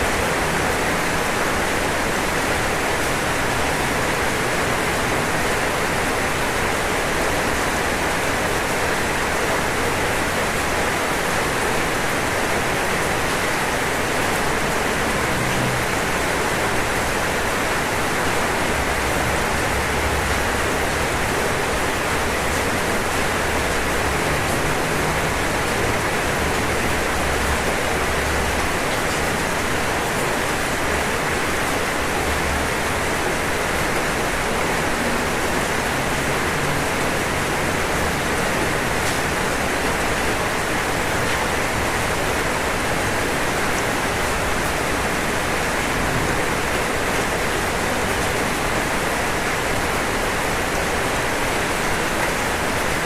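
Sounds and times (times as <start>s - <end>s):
rain falling on a roof: 0.0s - 53.0s.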